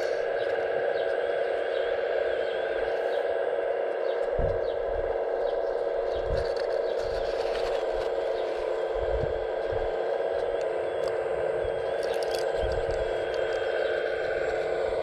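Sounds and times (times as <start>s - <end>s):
hydraulic pump whine: 0.0s - 15.0s.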